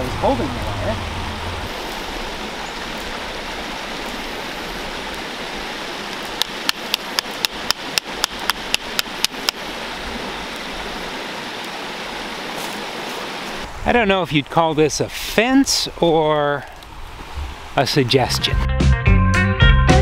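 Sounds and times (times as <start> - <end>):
creek rushing: 0.0 - 18.6.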